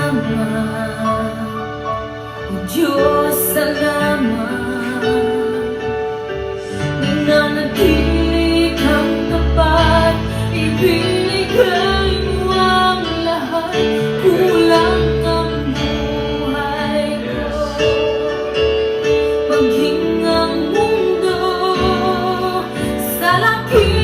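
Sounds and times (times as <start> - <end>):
woman singing: 0.0 - 24.0.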